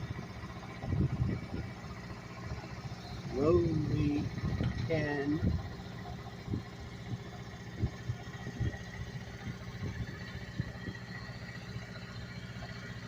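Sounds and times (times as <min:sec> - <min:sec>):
machinery engine humming: 0:00.0 - 0:13.0.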